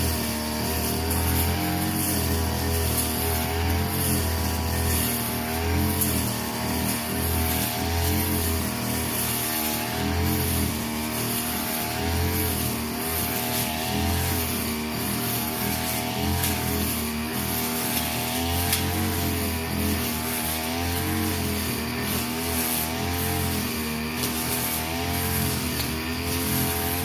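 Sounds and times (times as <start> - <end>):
brush cutter cutting grass: 0.0 - 27.0.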